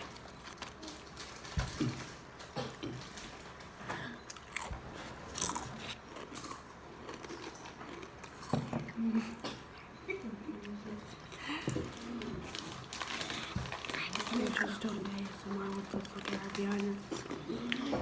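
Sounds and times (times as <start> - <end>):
biting and chewing snack food: 0.0 - 8.8, 11.2 - 18.0.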